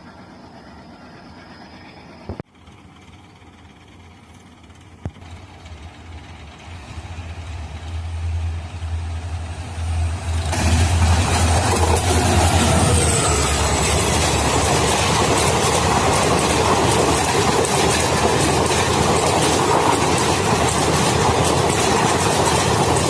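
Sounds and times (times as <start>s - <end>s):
locomotive engine drone: 0.0s - 23.0s
train wheels rushing on track: 0.0s - 23.0s.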